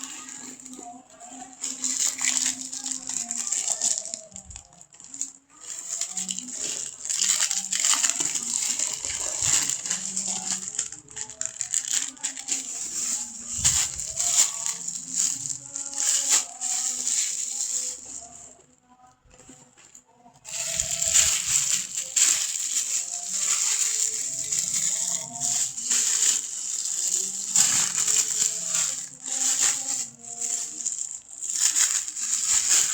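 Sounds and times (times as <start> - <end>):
plastic packaging crinkling: 0.0 - 18.7, 20.4 - 32.9
faint music: 0.0 - 32.9.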